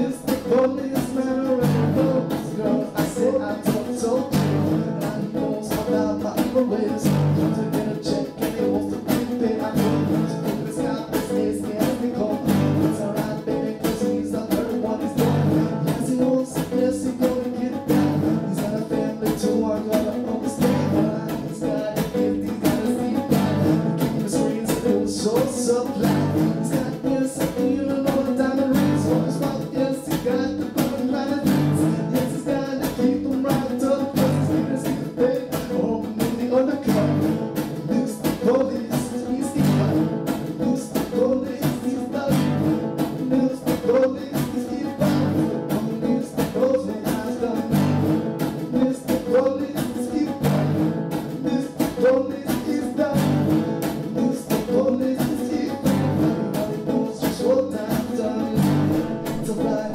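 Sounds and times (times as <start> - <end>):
song with guitar and beat: 0.0 - 59.9.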